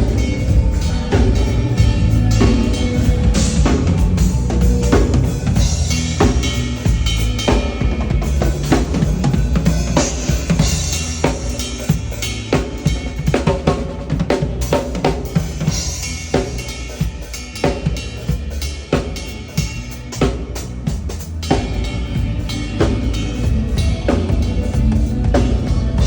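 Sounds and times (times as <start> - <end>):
low bass notes: 0.0 - 26.0.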